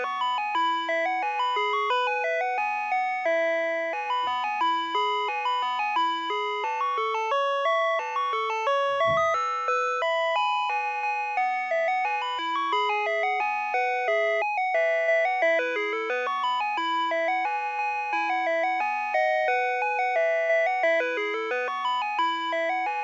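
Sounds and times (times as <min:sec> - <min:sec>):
ice cream truck chiming tune: 0:00.0 - 0:23.0.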